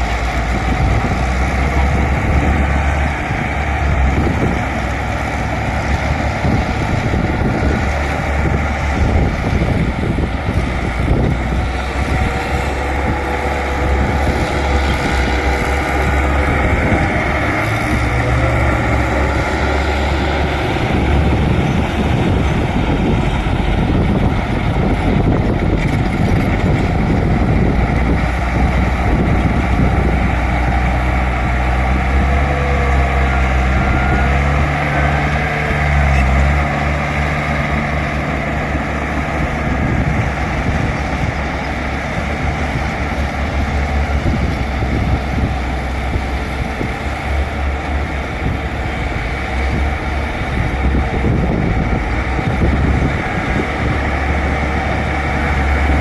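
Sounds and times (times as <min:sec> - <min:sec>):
bulldozer diesel engine rumbling: 0:00.0 - 0:56.0.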